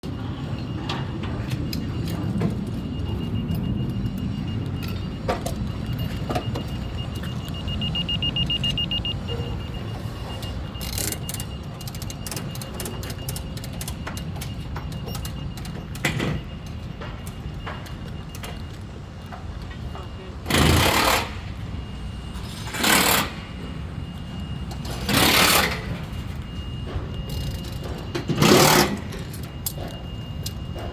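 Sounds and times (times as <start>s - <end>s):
rapid electronic beeping: 0.0s - 19.1s, 19.8s - 30.9s
construction machinery rumbling: 0.0s - 30.9s.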